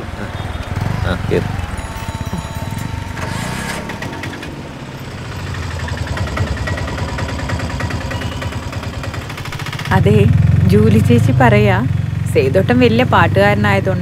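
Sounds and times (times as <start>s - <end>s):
auto-rickshaw engine running: 0.0s - 14.0s.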